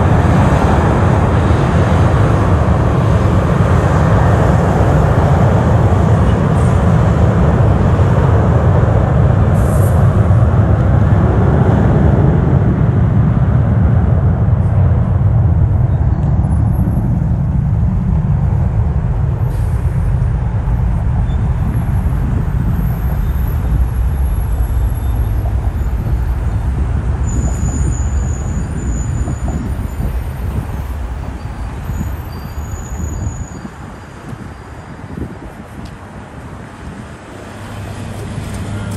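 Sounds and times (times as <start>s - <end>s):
jet engines deep rumble: 0.0s - 38.9s.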